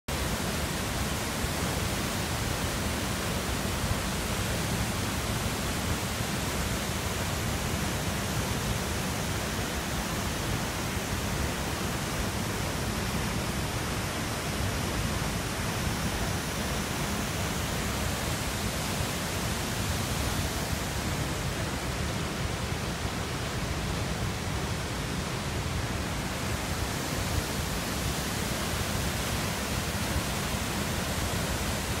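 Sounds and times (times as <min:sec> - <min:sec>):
waterfall rushing: 0:00.1 - 0:32.0.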